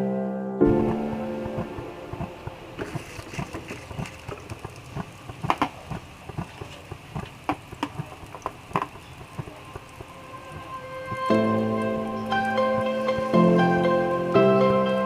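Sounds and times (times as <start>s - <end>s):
crackles and pops: 0.6s - 14.0s.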